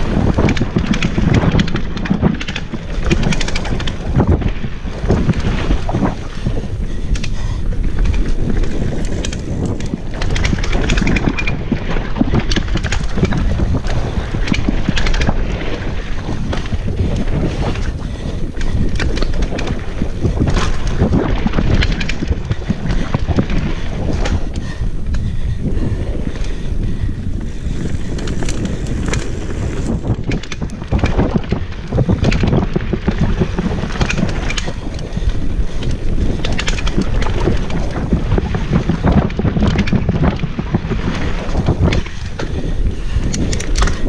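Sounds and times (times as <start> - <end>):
bike knocking and rattling: 0.0 - 44.0
tyres rolling on dirt trail: 0.0 - 44.0
wind buffeting microphone: 0.0 - 44.0.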